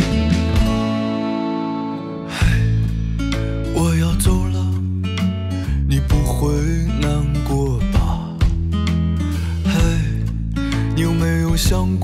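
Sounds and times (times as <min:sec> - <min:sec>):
deep bass line: 0:00.0 - 0:12.0
guitar-led music: 0:00.0 - 0:12.0.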